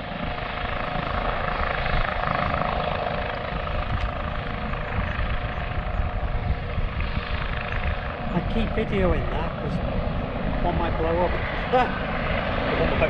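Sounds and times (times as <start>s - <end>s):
helicopter rotor and engine noise: 0.0s - 13.0s
wind rumbling on microphone: 0.0s - 13.0s.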